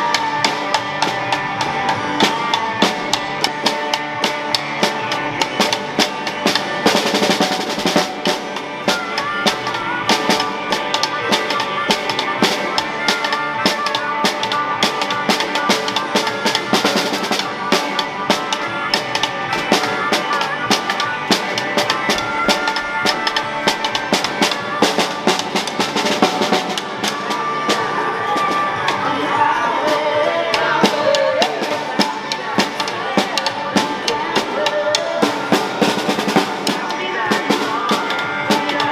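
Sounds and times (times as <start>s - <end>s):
drum-kit beat with melody: 0.0s - 38.9s.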